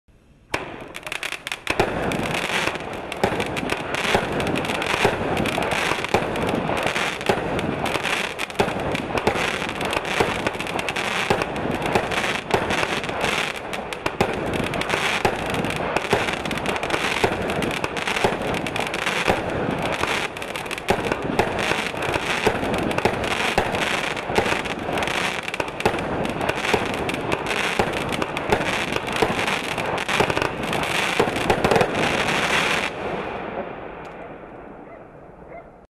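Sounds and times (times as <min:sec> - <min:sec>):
crackling firework stars: 0:00.3 - 0:34.9
firework launch pops: 0:00.5 - 0:10.5, 0:11.2 - 0:33.0
firework bursts: 0:00.5 - 0:33.7.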